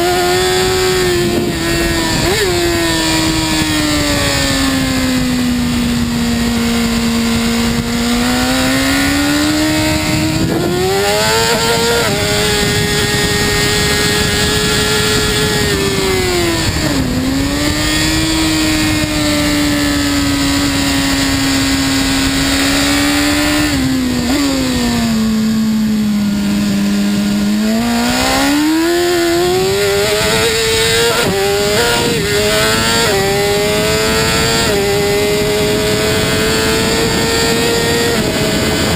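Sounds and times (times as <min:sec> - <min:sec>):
motorcycle engine at speed: 0:00.0 - 0:38.9.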